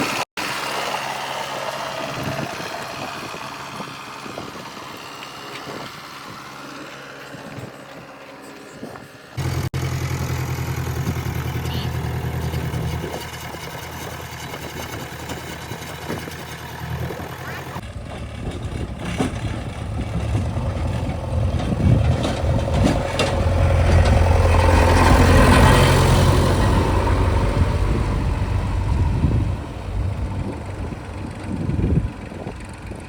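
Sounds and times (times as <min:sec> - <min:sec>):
heavy machine diesel engine: 0:00.0 - 0:33.0.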